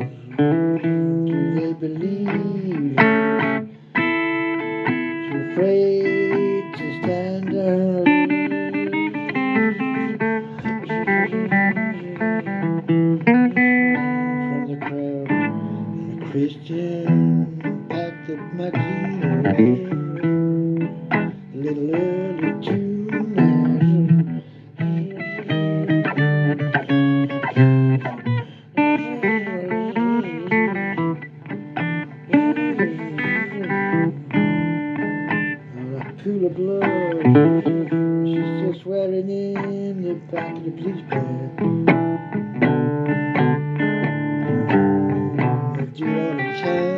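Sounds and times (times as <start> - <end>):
blues guitar playing: 0.0 - 46.9.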